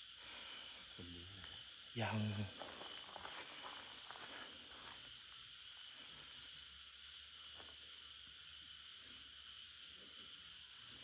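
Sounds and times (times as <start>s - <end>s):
night insects droning: 0.0s - 11.0s.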